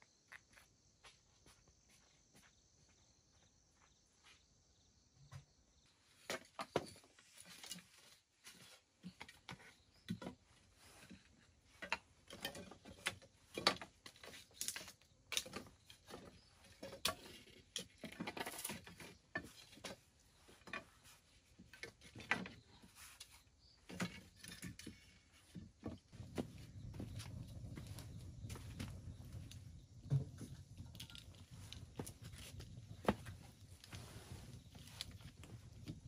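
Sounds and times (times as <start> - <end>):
objects knocking and scraping: 6.2 - 36.0.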